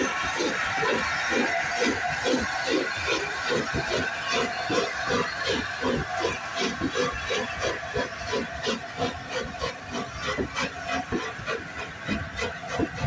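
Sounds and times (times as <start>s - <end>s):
steam locomotive exhaust chuffs: 0.0s - 13.0s
train wheels rolling on rails: 0.0s - 13.0s.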